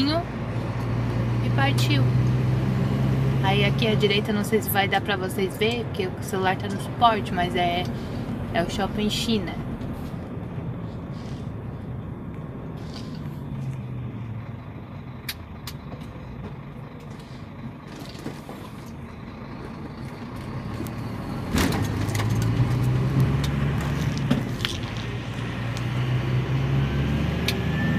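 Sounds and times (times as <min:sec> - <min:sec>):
truck engine and road noise: 0:00.0 - 0:27.9.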